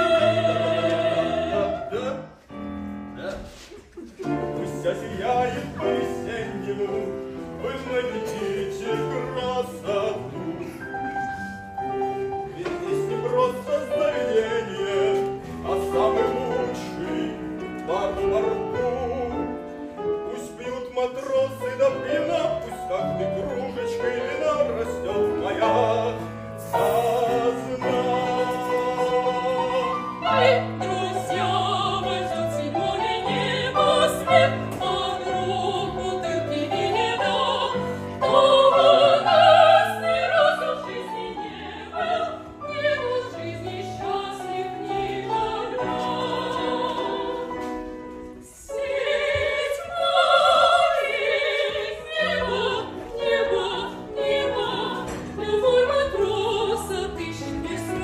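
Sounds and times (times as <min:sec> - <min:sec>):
operatic voices singing: 0:00.0 - 0:02.6, 0:04.2 - 0:58.0.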